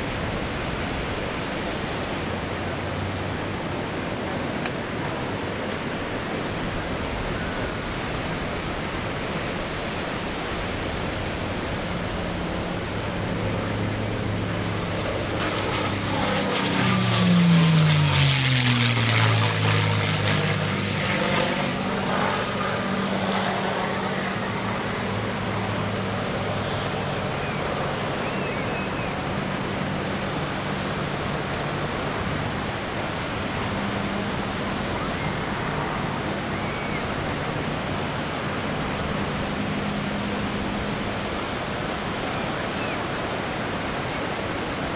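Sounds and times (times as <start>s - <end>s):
propeller plane engine droning: 0.0s - 44.9s
steady rushing background noise: 0.0s - 44.9s.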